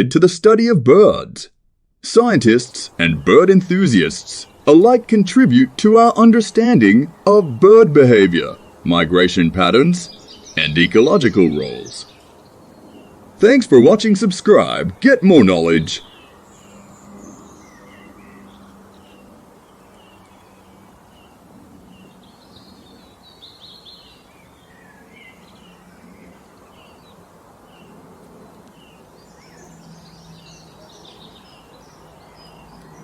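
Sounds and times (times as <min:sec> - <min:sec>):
birds chirping and calling: 0:02.1 - 0:33.0.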